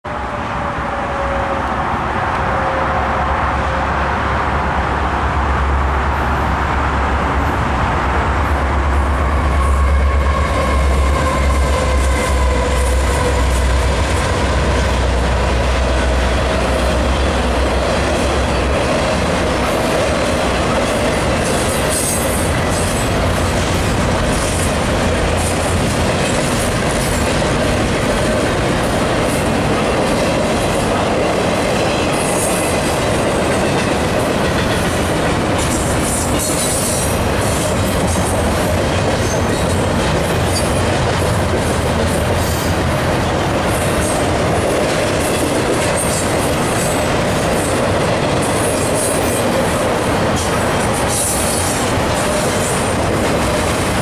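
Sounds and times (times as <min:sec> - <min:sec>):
diesel locomotive engine rumble: 0:00.1 - 0:54.0
train wheels on rails: 0:00.1 - 0:54.0.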